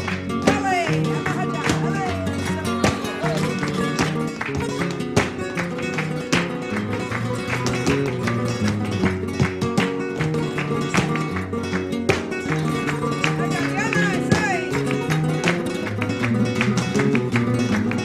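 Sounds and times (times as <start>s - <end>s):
flamenco guitar music: 0.0s - 18.0s.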